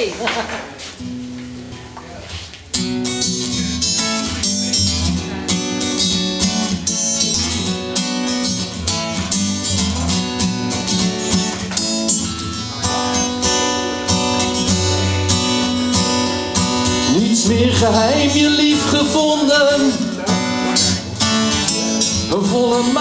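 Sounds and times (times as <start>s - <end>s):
acoustic guitar strumming: 0.1s - 23.0s.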